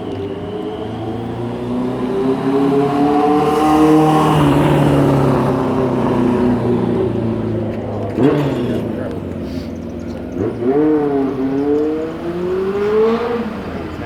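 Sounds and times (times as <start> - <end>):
vehicle driving past: 0.0 - 14.0.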